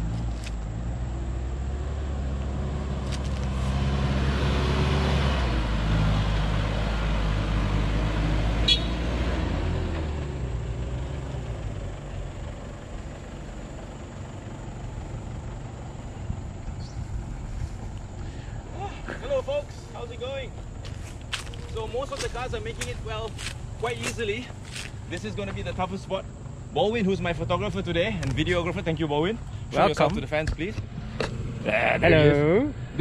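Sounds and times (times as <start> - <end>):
pickup truck engine driving past: 0.7 - 33.0.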